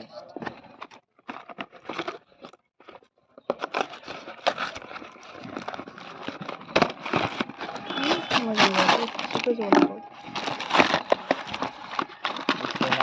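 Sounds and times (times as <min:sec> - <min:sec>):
packaging crinkling and tearing: 0:00.3 - 0:13.0.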